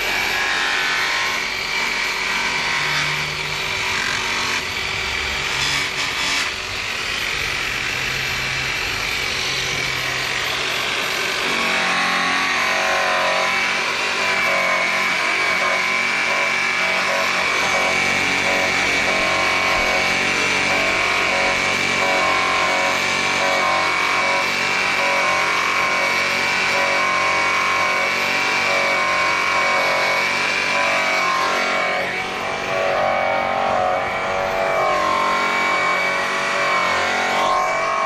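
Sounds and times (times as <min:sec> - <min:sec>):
rotary polisher motor whine: 0:00.0 - 0:38.0.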